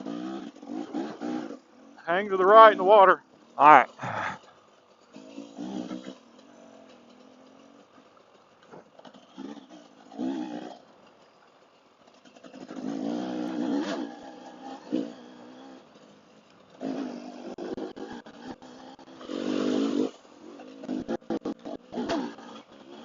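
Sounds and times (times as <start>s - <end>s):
motorcycle engine revving: 0.0s - 2.0s, 4.2s - 23.0s.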